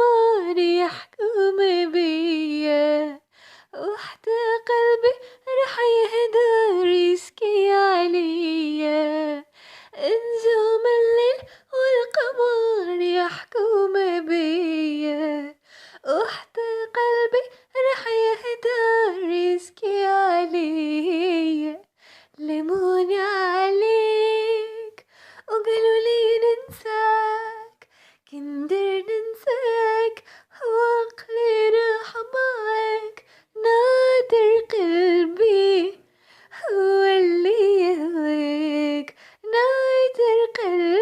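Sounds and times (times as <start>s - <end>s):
woman singing unaccompanied: 0.0s - 41.0s.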